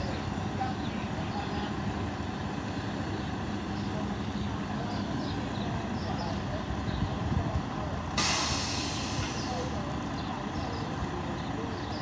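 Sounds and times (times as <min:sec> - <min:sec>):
street noise: 0:00.0 - 0:12.0
vehicle engine idling: 0:00.0 - 0:12.0.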